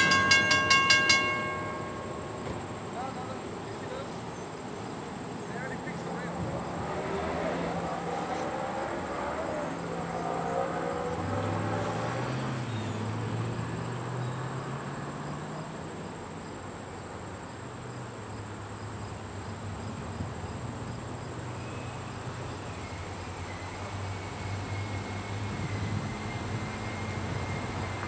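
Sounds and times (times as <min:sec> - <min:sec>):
crickets chirring: 0:00.0 - 0:28.0
diesel engine hum: 0:00.0 - 0:28.0.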